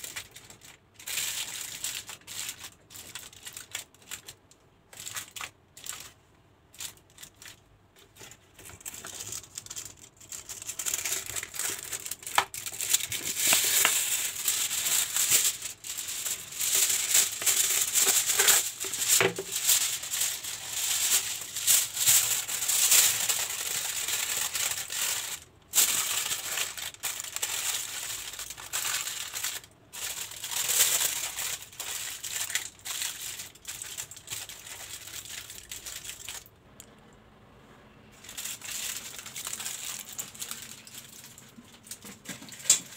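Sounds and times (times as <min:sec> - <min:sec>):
aluminium foil crinkling: 0:00.0 - 0:36.5, 0:38.2 - 0:42.9.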